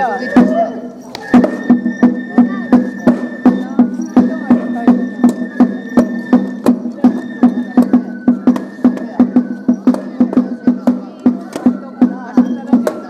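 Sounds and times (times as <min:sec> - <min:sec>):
drum steady beat: 0:00.0 - 0:13.0
high held flute melody: 0:00.0 - 0:13.0.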